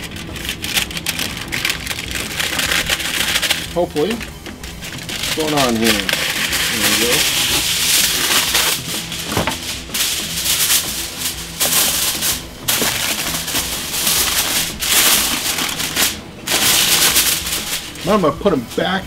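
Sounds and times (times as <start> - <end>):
aluminium foil crinkling: 0.0 - 18.8.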